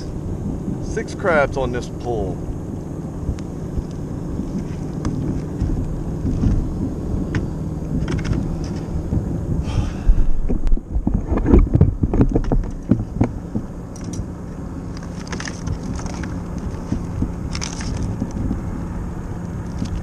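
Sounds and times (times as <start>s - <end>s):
low wind noise: 0.0s - 20.0s.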